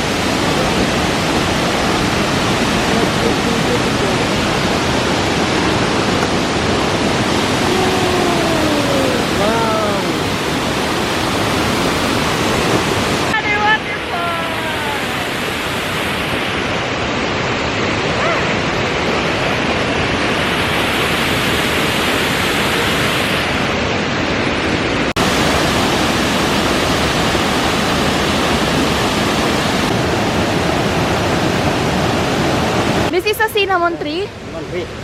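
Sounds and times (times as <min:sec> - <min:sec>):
waterfall roaring: 0:00.0 - 0:35.0.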